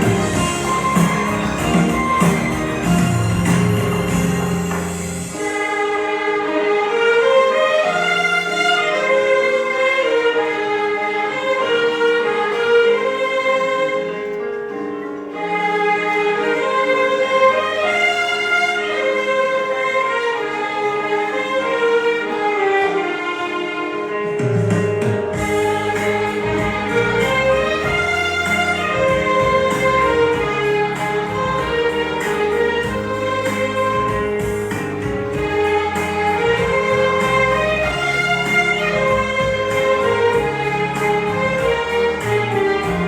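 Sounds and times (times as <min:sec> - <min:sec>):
violin melody: 0:00.0 - 0:43.0.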